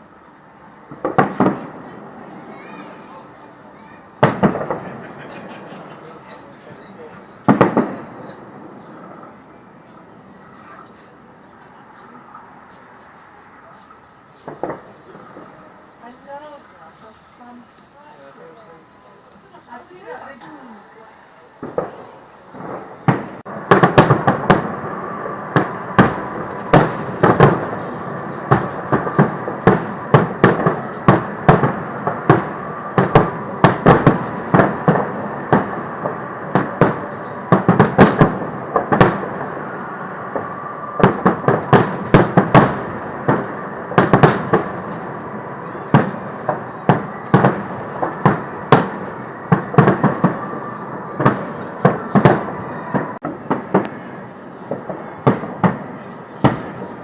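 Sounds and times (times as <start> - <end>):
fireworks bangs and crackles: 0.0 - 17.6, 21.6 - 57.0.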